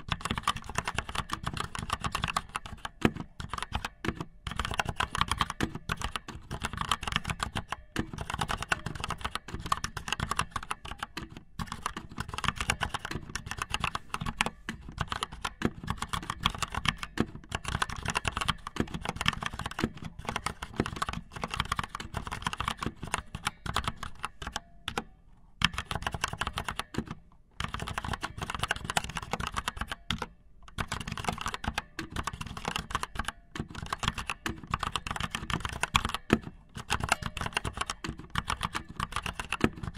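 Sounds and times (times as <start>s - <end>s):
rapid irregular clicking: 0.0s - 25.0s, 25.6s - 39.9s.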